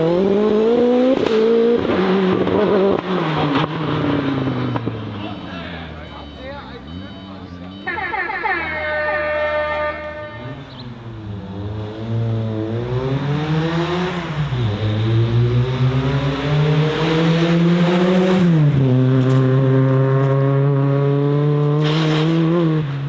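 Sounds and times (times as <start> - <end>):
race car engine accelerating: 0.0 - 7.8, 10.1 - 23.0.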